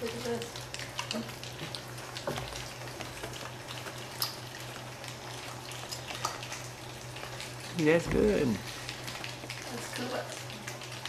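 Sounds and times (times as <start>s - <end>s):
puppies lapping and slurping: 0.0s - 11.0s
steady low hum: 0.0s - 11.0s.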